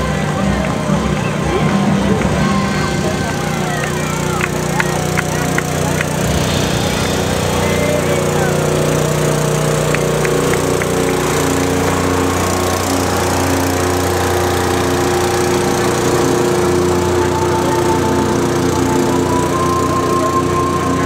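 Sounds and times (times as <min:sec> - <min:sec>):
boat motor running: 0:00.0 - 0:21.0
music playing: 0:00.0 - 0:21.0.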